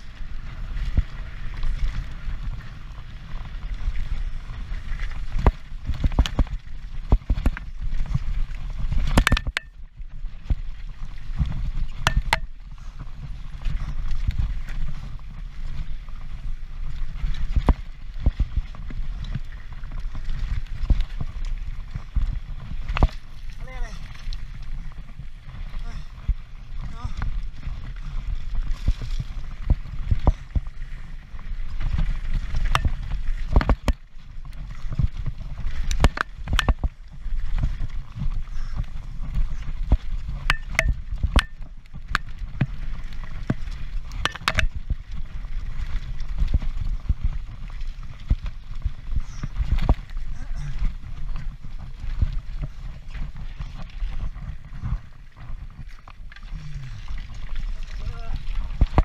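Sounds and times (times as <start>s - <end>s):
mountain bike clattering and rattling: 0.0s - 56.4s.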